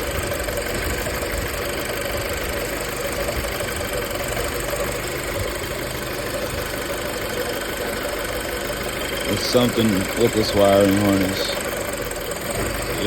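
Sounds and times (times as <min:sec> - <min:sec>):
car engine idling erratically: 0:00.0 - 0:13.0.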